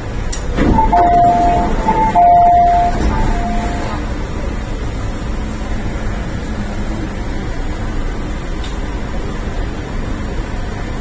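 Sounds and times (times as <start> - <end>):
station platform ambience: 0.0 - 11.0
train air-conditioning hum: 0.0 - 11.0.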